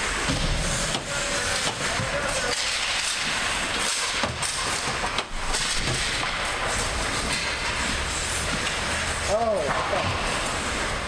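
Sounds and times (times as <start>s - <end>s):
skates scraping on ice: 0.4s - 11.0s.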